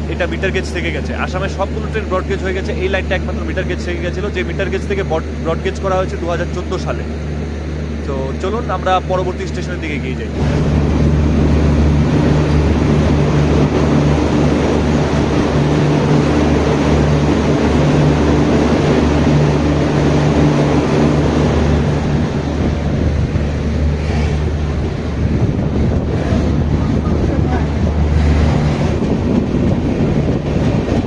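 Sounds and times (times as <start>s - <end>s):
low hum: 0.0s - 31.0s
train rumbling along track: 0.0s - 31.0s.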